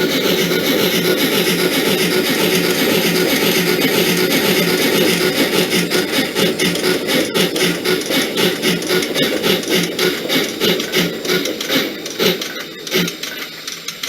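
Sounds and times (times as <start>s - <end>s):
steam locomotive chuffing from speaker: 0.0s - 14.0s.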